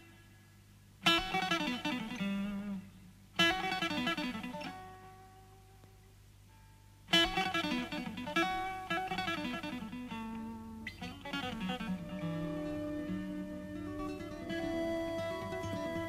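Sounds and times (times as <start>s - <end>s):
live rock guitar instrumental: 1.0s - 5.6s, 7.1s - 16.0s.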